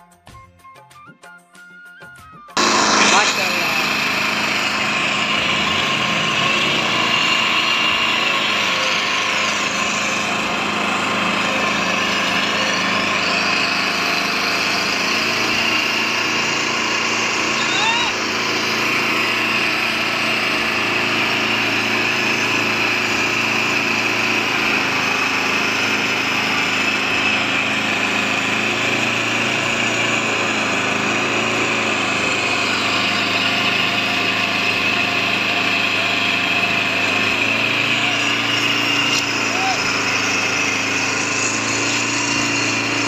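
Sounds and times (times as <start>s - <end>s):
paver engine running: 2.6s - 43.0s.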